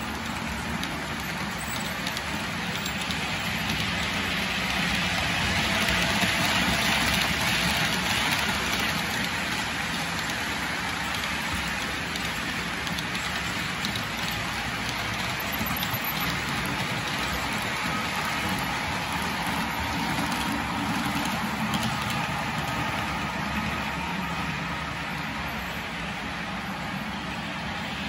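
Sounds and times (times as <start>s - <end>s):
model train wheels on track: 0.0s - 28.0s.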